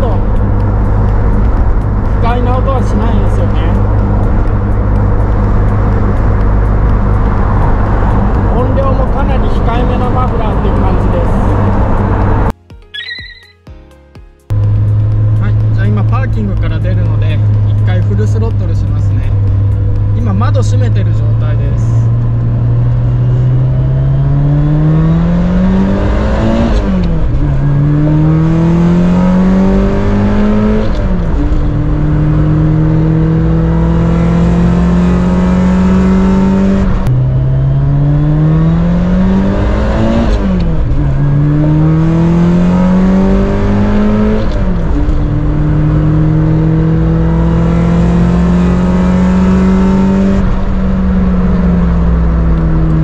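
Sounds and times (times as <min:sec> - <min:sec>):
car engine accelerating in cabin: 0:00.0 - 0:12.6, 0:14.5 - 0:53.0.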